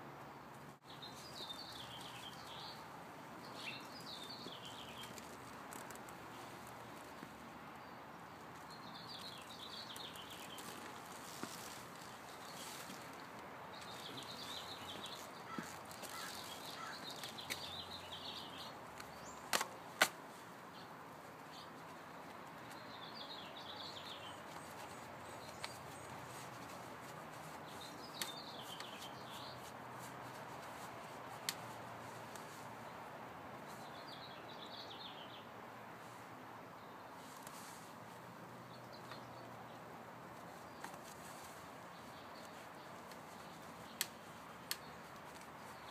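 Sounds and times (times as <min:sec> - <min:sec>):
outdoor background hiss: 0:00.0 - 0:45.9
small birds chirping: 0:00.5 - 0:45.9.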